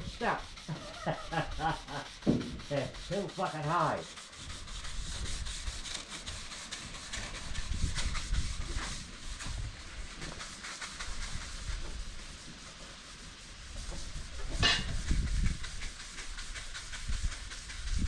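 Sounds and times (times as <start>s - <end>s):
sanding scratchy hiss: 0.0s - 18.0s.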